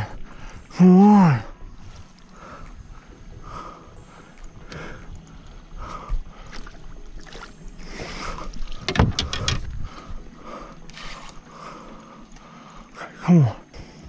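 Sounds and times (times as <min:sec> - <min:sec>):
water sloshing against boat: 0:01.4 - 0:14.0.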